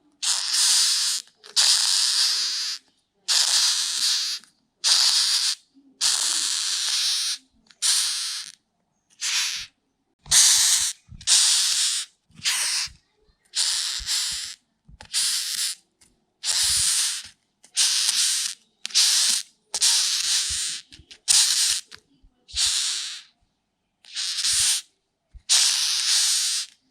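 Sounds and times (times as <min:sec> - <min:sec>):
beetle hissing: 0:00.2 - 0:08.6, 0:09.2 - 0:09.7, 0:10.3 - 0:15.8, 0:16.4 - 0:23.3, 0:24.1 - 0:26.8.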